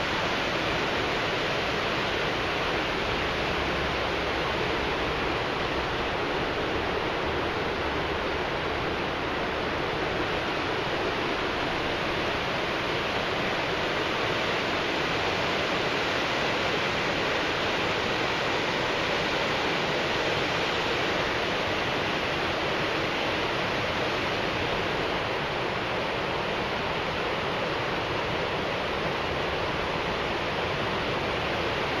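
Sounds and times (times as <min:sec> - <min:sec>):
river current rushing: 0:00.0 - 0:32.0.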